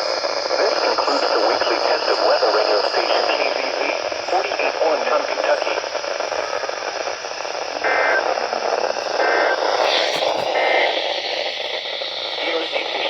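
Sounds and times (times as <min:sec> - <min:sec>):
faint broadcast voice: 0:00.0 - 0:13.0
radio static hiss: 0:00.0 - 0:13.0.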